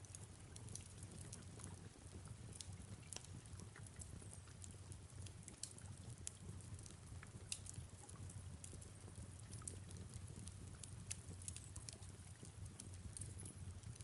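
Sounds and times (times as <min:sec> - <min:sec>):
soft hiss of rain: 0:00.0 - 0:14.0
wood fire crackling and popping: 0:00.0 - 0:14.0.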